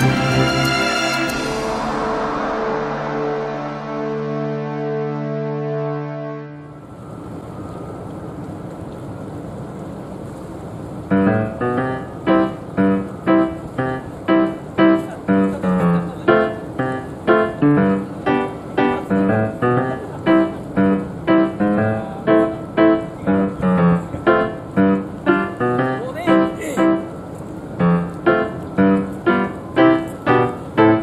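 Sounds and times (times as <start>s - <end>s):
light piano melody: 0.0s - 8.8s, 10.9s - 31.0s.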